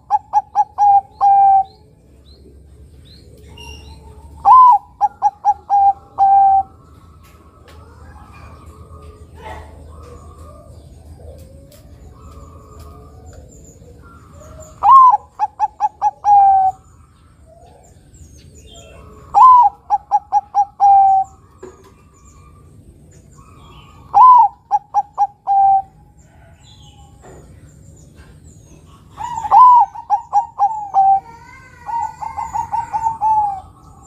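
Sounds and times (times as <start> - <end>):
dove cooing: 0.0 - 34.0.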